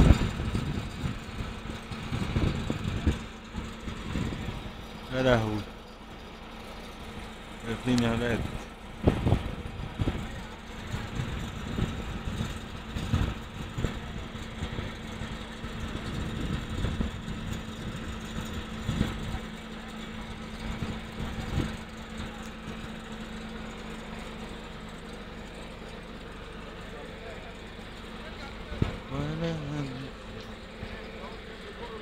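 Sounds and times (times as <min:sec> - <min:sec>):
engine humming: 0:00.0 - 0:32.0.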